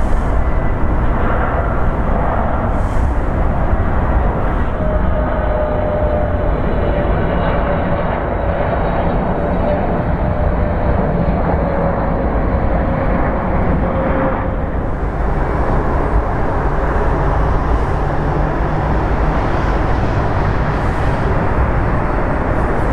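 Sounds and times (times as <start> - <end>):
jet engines roaring: 0.0 - 22.9.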